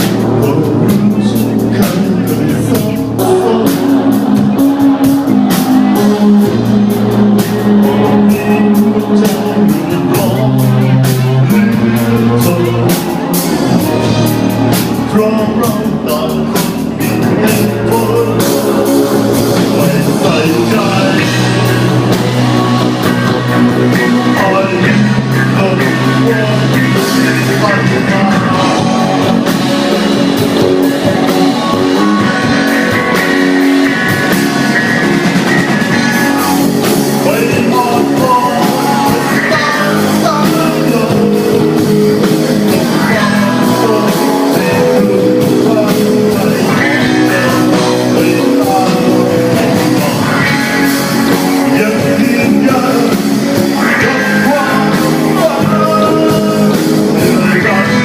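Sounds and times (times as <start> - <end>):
drum kit: 0.0 - 58.0
electric guitar: 0.0 - 58.0
person singing lead vocal: 0.0 - 58.0.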